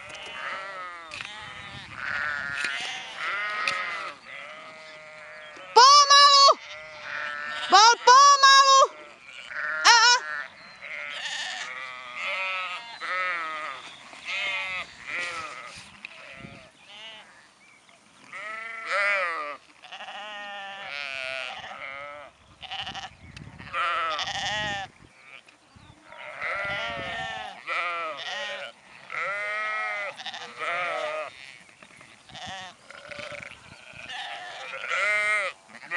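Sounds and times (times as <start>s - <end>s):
sheep bleating: 0.0s - 17.4s, 18.3s - 25.5s, 26.1s - 31.7s, 32.3s - 35.9s.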